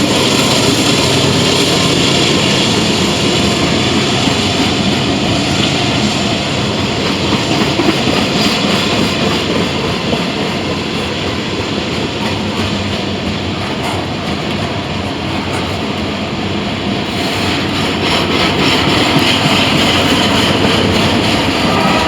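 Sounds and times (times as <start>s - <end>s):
freight train rumbling past: 0.0s - 22.0s
wheels clickety-clack on rails: 0.0s - 22.0s.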